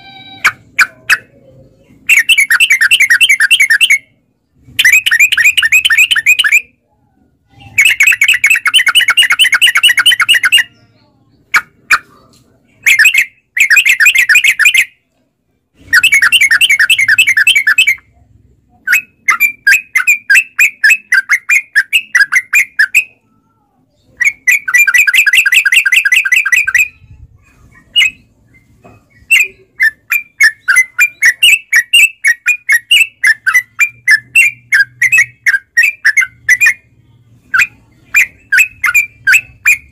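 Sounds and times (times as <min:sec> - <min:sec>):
bulbul chattering song: 0:00.0 - 0:15.2, 0:15.8 - 0:39.9.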